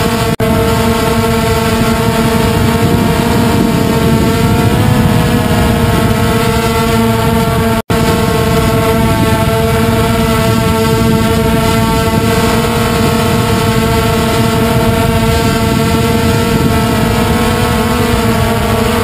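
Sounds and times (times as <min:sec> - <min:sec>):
drone propellers whirring: 0:00.0 - 0:19.0.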